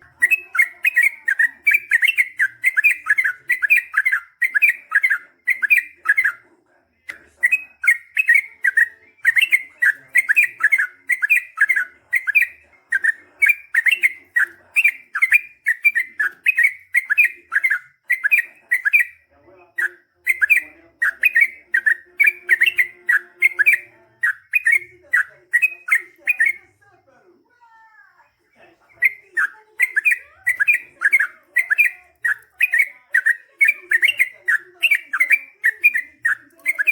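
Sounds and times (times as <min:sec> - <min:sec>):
bird singing whistled notes: 0:00.0 - 0:06.4, 0:07.1 - 0:26.6, 0:29.0 - 0:36.9.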